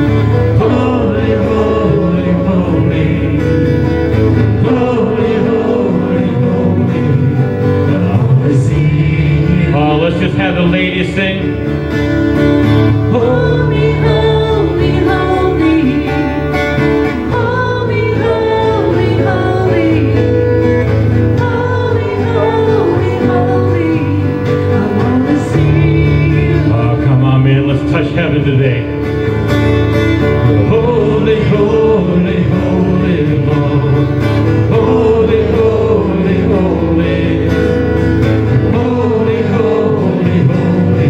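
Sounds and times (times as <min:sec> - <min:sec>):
person singing: 0:00.0 - 0:11.7, 0:12.8 - 0:29.0, 0:30.2 - 0:41.0
guitar: 0:00.0 - 0:41.0
sustained bass notes: 0:00.0 - 0:41.0
worship band music: 0:00.0 - 0:41.0.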